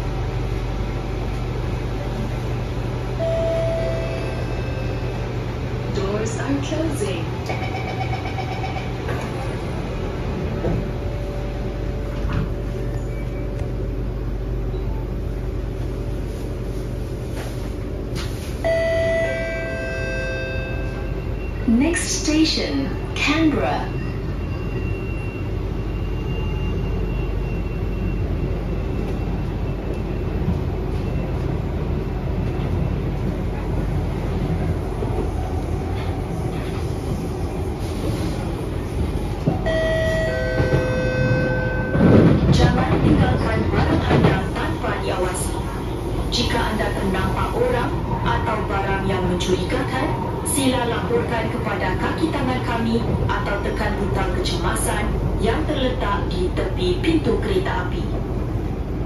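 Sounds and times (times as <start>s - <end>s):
train car hum: 0.0s - 59.0s.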